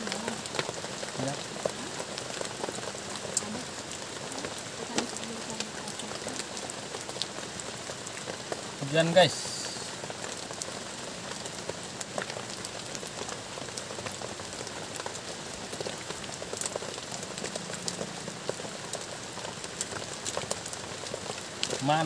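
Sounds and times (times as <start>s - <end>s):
rain on plastic tarp: 0.0s - 22.0s.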